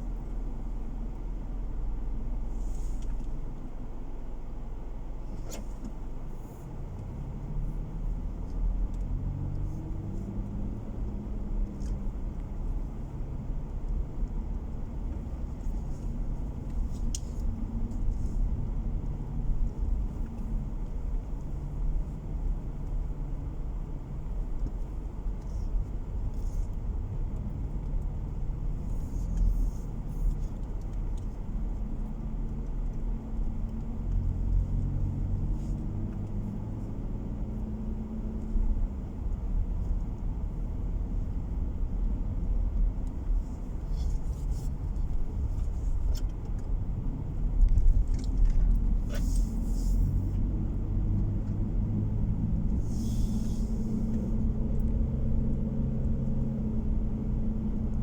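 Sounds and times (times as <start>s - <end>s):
car engine hum: 0.0s - 58.0s
road and tyre noise: 0.0s - 58.0s.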